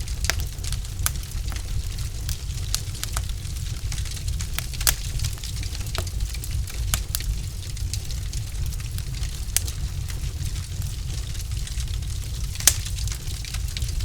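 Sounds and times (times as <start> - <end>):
logs crackling and popping: 0.0 - 14.0
low rumble of flame: 0.0 - 14.0.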